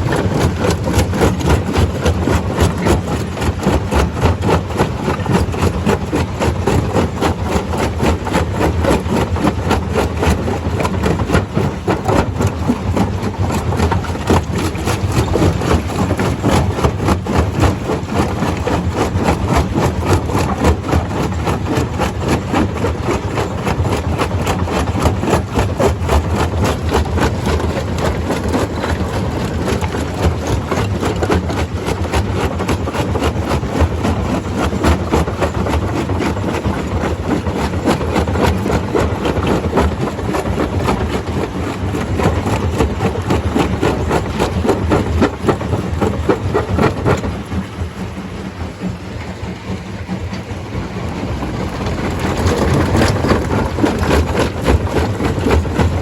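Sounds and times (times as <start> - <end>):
stone crusher drone and clatter: 0.0 - 56.0.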